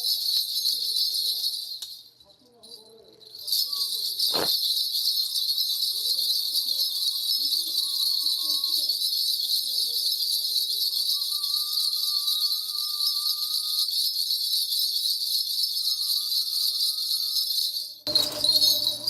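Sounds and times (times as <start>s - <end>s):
small bells jingling: 0.0s - 19.0s.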